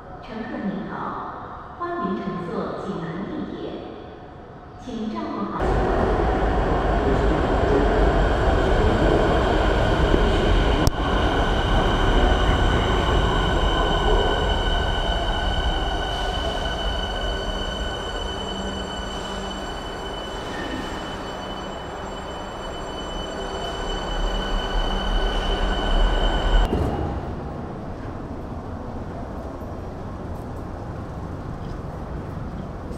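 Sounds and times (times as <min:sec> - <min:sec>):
train wheels rumbling on rails: 0:05.6 - 0:32.9.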